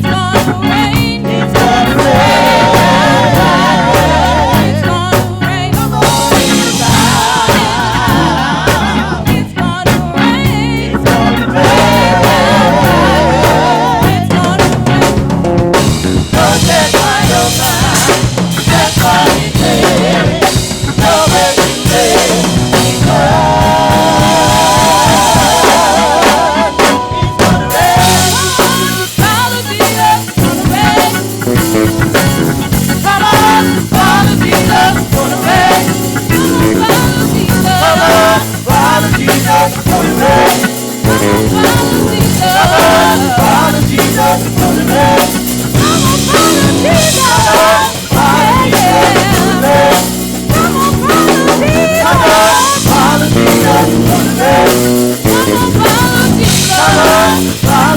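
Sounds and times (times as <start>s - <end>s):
drum kit playing: 0.0s - 57.9s
people singing: 0.0s - 57.9s
wavering keyboard lines: 10.4s - 57.9s.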